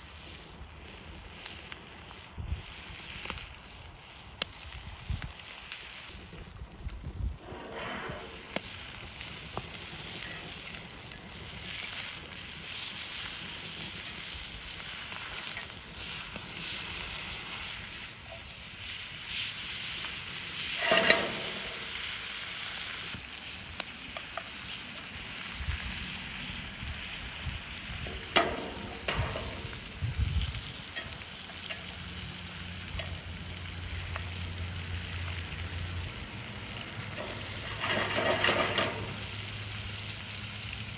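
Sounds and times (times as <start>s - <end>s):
steak sizzling: 0.0s - 40.9s.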